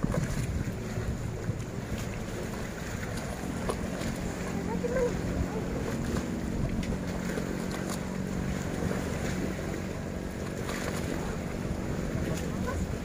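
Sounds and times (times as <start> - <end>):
low engine hum: 0.0 - 13.0
wind buffeting microphone: 0.0 - 13.0.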